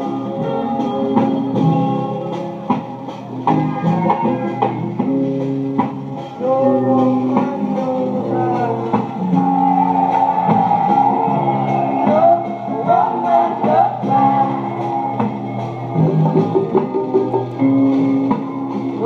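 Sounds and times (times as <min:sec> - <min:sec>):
bluesy guitar music from vinyl: 0:00.0 - 0:19.0.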